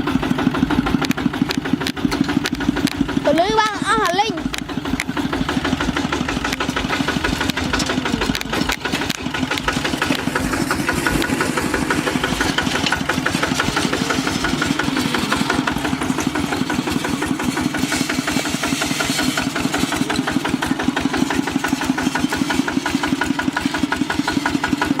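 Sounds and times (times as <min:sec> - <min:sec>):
diesel engine chugging: 0:00.0 - 0:25.0.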